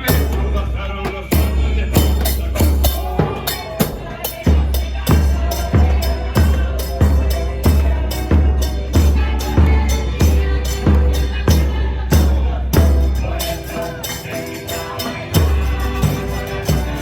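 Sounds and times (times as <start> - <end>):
music with bass drum beat: 0.0 - 17.0.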